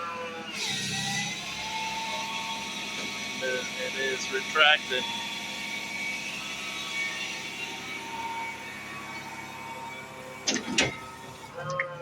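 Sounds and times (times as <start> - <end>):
boom saw engine and hydraulics: 0.0 - 12.0.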